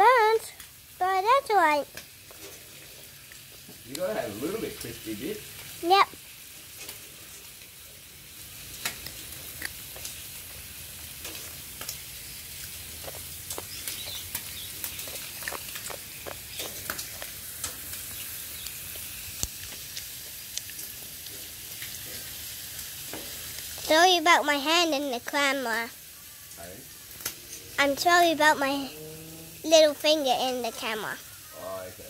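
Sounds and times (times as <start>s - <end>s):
bacon sizzling with pops: 0.0s - 32.0s.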